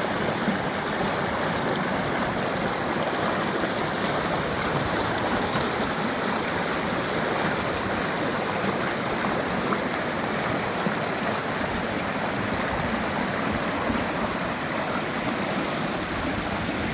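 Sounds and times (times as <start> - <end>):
river rushing over rocks: 0.0 - 16.9.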